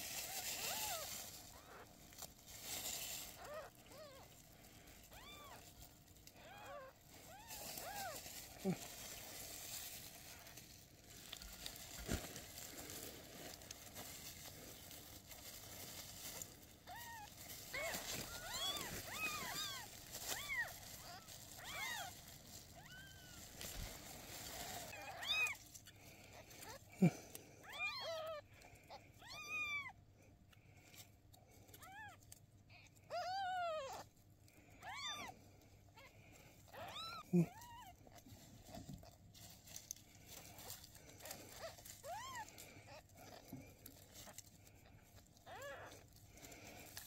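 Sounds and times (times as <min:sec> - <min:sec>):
kittens mewing: 0:00.1 - 0:47.0.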